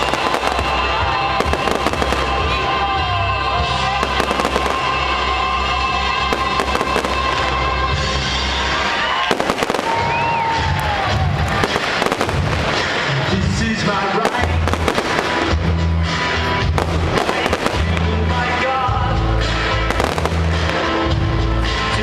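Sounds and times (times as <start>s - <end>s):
fireworks bursting and crackling: 0.0s - 22.0s
music playing: 0.0s - 22.0s.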